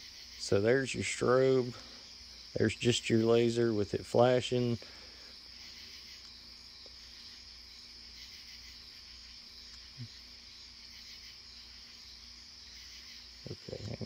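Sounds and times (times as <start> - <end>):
night insects chirring: 0.0 - 14.0.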